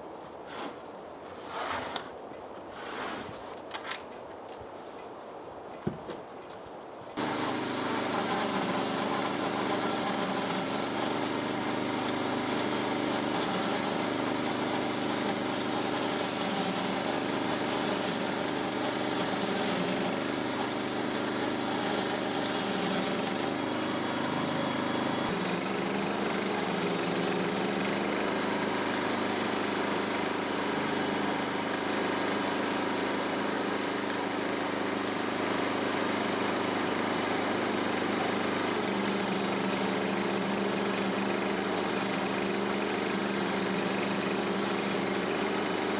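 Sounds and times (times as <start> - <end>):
small gasoline engine running: 7.2 - 45.9.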